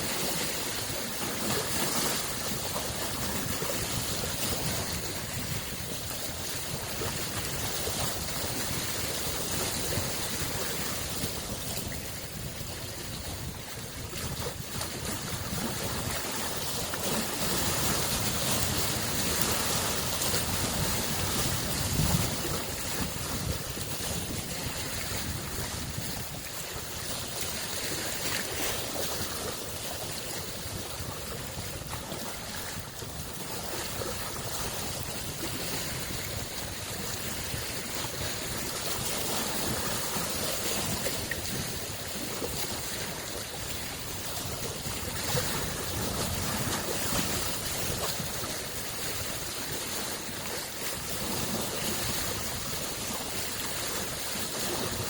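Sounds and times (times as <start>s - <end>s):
waves lapping on shore: 0.0s - 55.0s.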